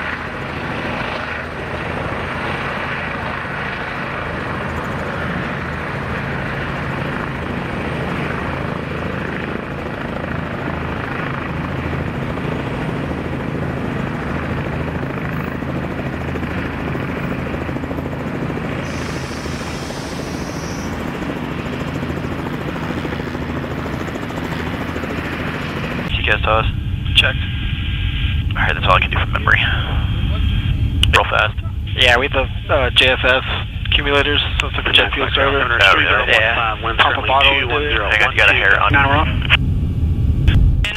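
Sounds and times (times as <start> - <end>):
helicopter rotors humming: 0.0 - 40.9.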